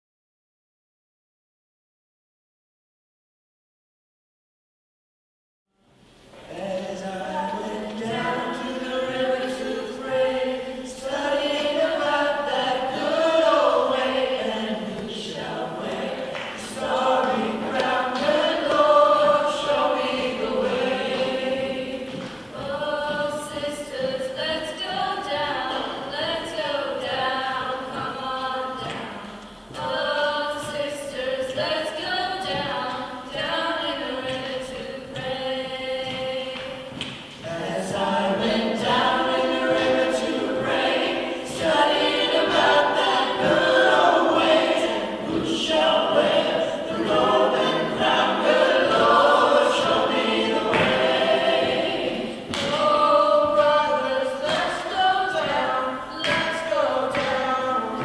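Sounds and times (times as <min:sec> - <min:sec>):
mixed choir singing: 0:06.4 - 0:58.0.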